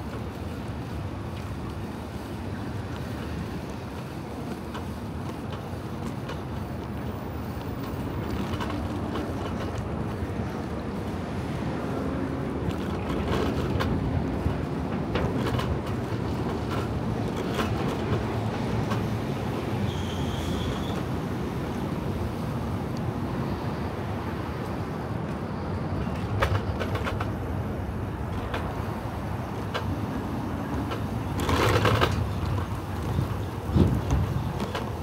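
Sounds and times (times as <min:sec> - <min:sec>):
traffic noise: 0:00.0 - 0:35.0
wind and road noise: 0:00.0 - 0:35.0.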